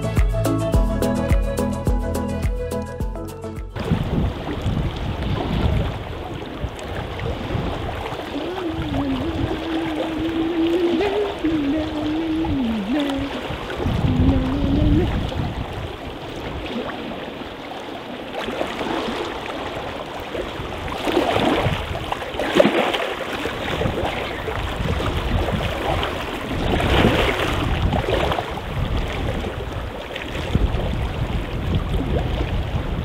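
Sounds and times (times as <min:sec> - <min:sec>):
waves lapping on rocks: 0:03.8 - 0:33.0.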